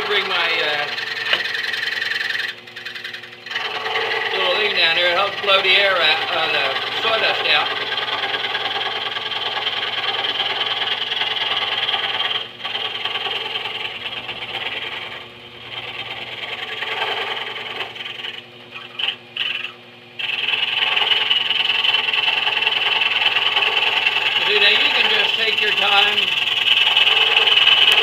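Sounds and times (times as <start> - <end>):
scroll saw cutting wood: 0.0 - 28.0.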